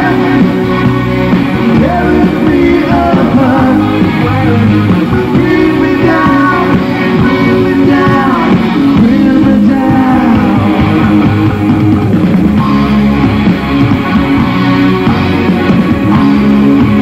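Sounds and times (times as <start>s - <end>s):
electric guitar: 0.0s - 17.0s
rock band playing live: 0.0s - 17.0s.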